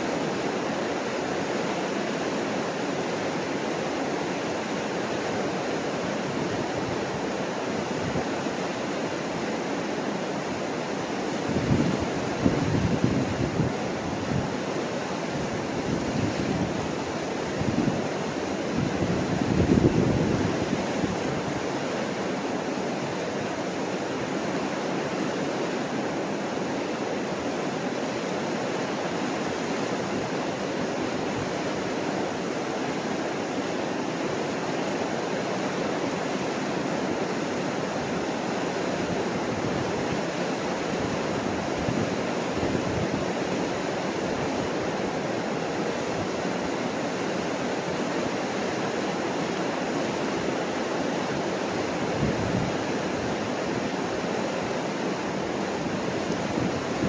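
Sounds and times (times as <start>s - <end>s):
water rushing over rapids: 0.0s - 57.0s.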